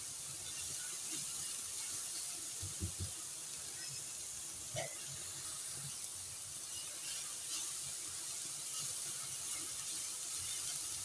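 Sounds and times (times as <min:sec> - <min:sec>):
vegetables sizzling in oil: 0:00.0 - 0:11.0
spatula scraping a pan: 0:00.4 - 0:02.3, 0:03.7 - 0:11.0.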